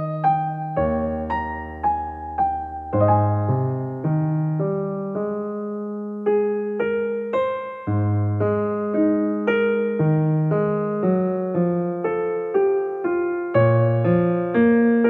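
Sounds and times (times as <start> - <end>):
gentle keyboard tune: 0.0 - 15.0.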